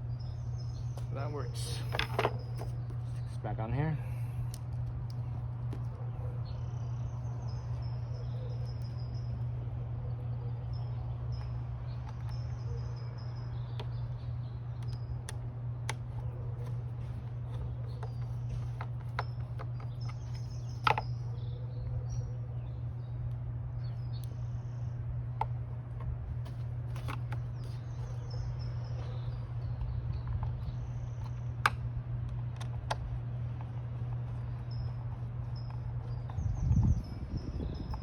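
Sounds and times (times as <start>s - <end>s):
birds chirping: 0.0s - 38.0s
steady low hum: 0.0s - 38.0s.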